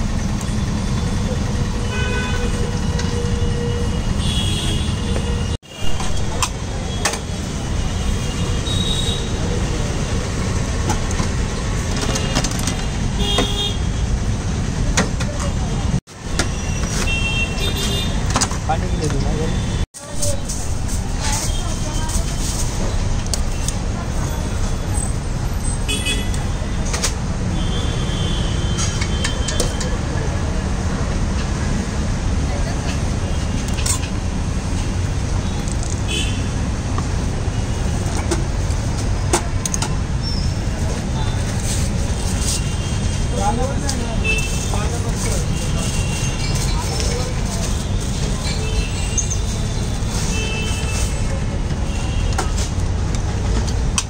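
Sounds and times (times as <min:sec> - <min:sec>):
street traffic rumble: 0:00.0 - 0:54.0.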